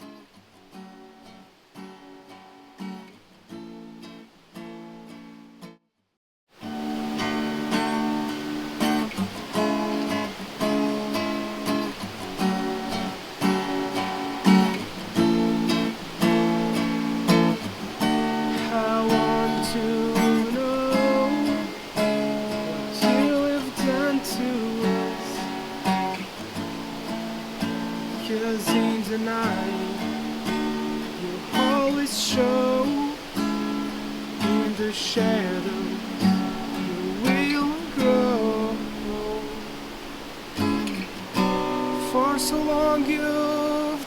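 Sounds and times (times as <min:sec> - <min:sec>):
acoustic guitar strumming: 0:00.0 - 0:05.8, 0:06.6 - 0:44.0.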